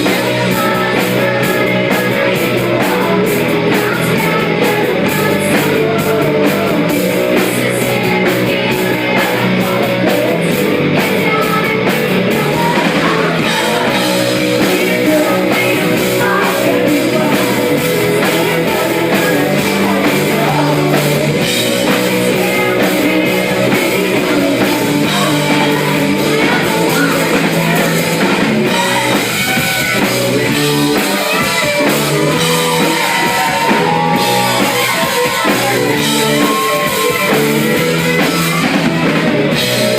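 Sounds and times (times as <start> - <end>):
woman singing: 0.0 - 38.7
live rock band playing: 0.0 - 39.9.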